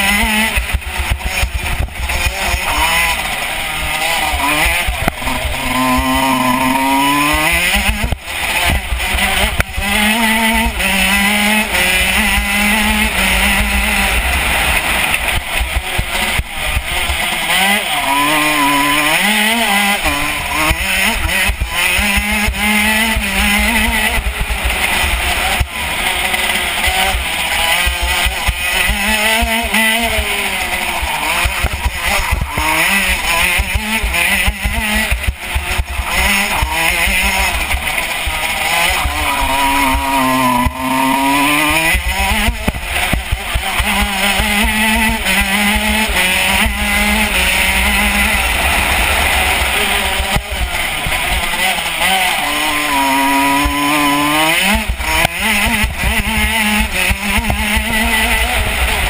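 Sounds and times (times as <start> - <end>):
two-stroke kart engine revving: 0.0 - 59.0.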